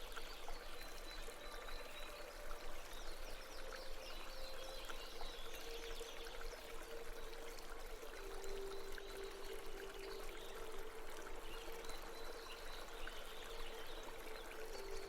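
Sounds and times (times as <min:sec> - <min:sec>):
brook babbling: 0:00.0 - 0:15.0.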